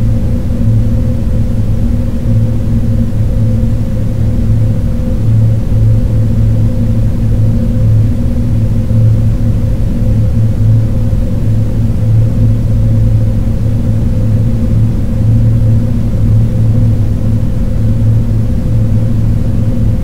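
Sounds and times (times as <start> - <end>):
low rumbling electronic drone: 0.0 - 20.0.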